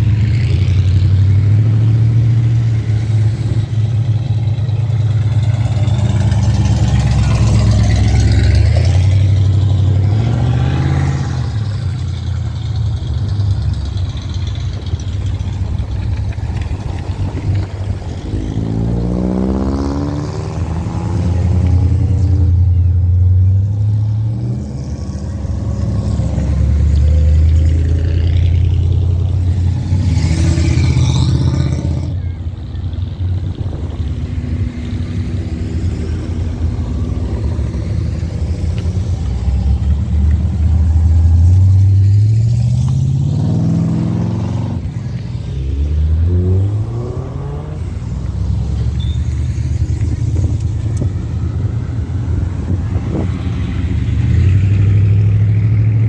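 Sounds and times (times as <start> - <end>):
engine revving: 0.0 - 22.7, 23.3 - 32.3, 33.4 - 56.0
car engines rumbling past: 0.0 - 56.0.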